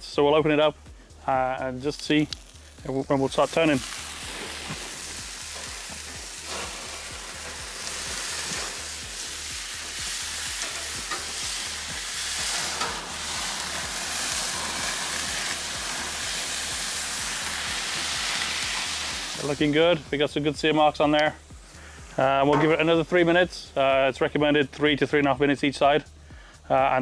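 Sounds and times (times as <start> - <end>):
steak sizzling on grill: 1.3 - 23.9.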